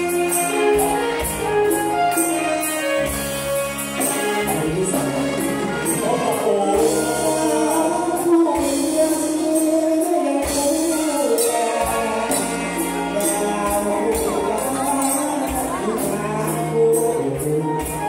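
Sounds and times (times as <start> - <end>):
man singing into a microphone: 0.0 - 2.7, 4.0 - 18.0
live band with drums and keyboard: 0.0 - 18.0.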